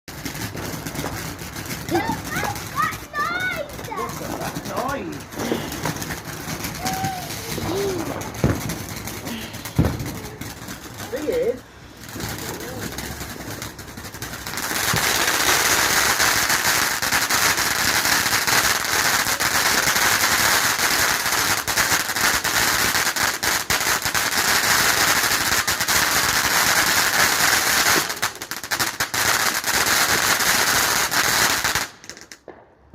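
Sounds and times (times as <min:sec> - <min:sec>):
fireworks crackling: 0:00.1 - 0:32.9.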